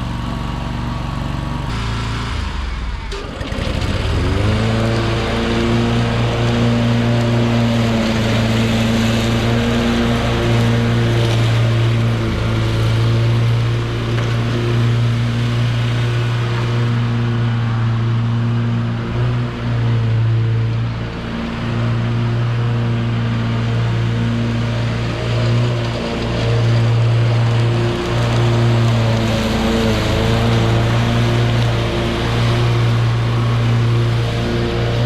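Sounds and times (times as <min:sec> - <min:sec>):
skid steer engine running: 0:00.0 - 0:35.0.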